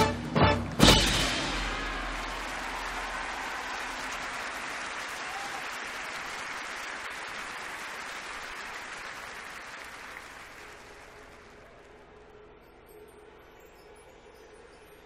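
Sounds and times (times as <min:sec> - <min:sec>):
stadium crowd applauding: 0:00.0 - 0:12.1.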